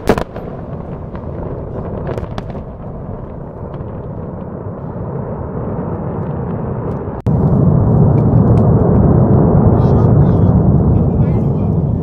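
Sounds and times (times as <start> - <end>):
explosion rumble: 0.0 - 12.0.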